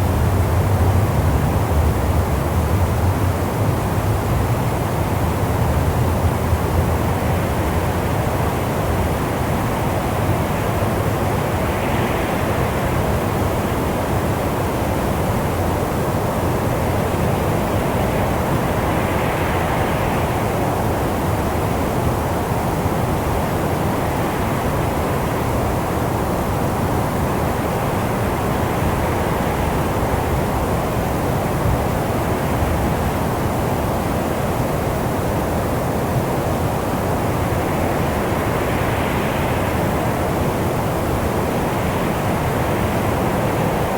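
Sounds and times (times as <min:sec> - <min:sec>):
rushing wind: 0:00.0 - 0:43.9.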